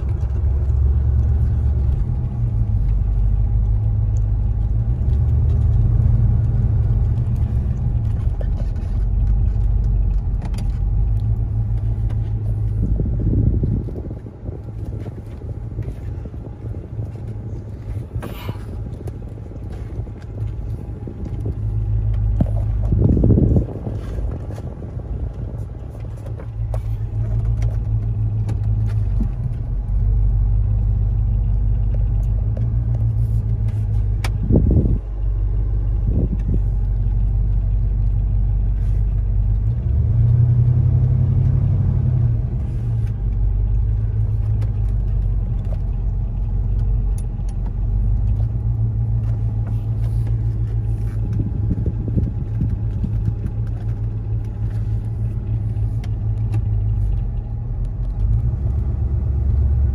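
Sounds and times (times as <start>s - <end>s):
truck engine rumble: 0.0s - 59.9s.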